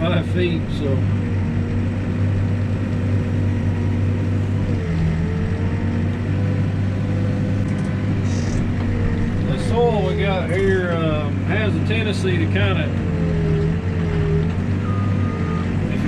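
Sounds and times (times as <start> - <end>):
diesel engine running: 0.0 - 16.0
steady mechanical whine: 0.0 - 16.0.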